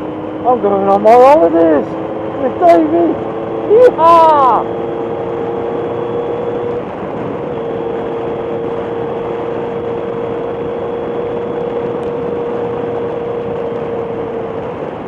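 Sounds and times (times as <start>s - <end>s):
heavy wind: 0.0s - 15.0s
motorcycle engine: 0.0s - 15.0s
road rush: 0.0s - 15.0s.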